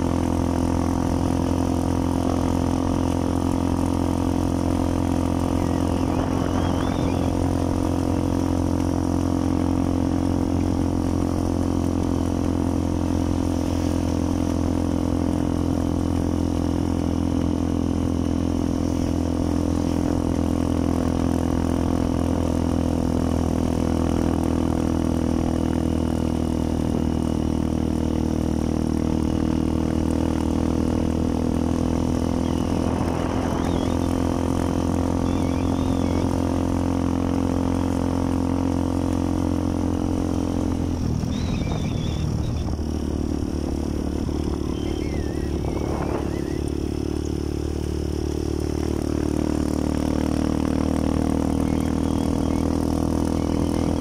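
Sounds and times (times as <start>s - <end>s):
small motorcycle engine running: 0.0s - 54.0s.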